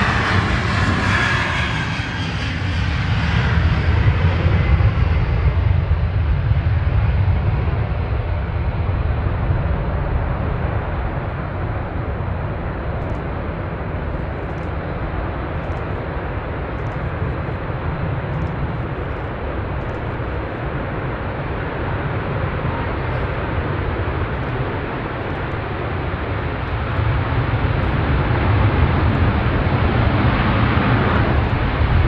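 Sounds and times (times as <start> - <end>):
jet engines running at high power: 0.0 - 32.0.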